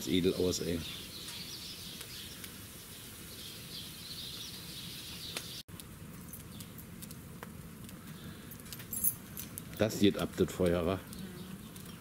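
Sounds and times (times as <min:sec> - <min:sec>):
birds chirping: 0:00.0 - 0:05.6, 0:06.2 - 0:06.8, 0:08.0 - 0:12.0
wood fire crackling: 0:00.0 - 0:12.0.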